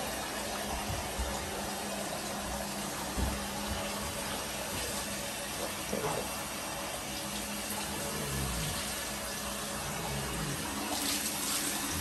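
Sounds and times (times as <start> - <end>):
shower water running into bathtub: 0.0 - 12.0.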